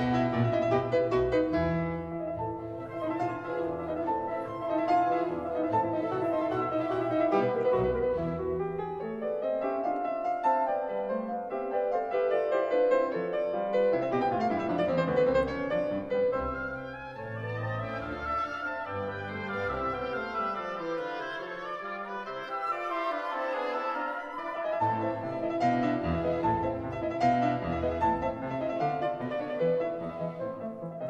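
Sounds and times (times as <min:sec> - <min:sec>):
classical piano music: 0:00.0 - 0:31.0.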